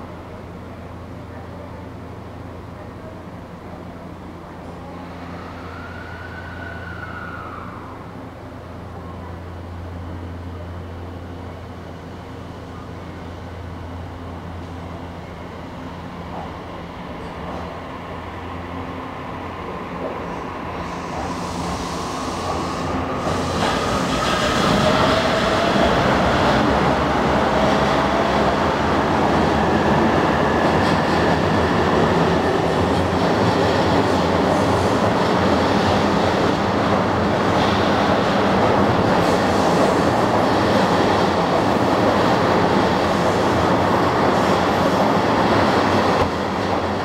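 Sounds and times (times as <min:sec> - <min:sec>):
train wheel and rail noise: 0:00.0 - 0:47.0.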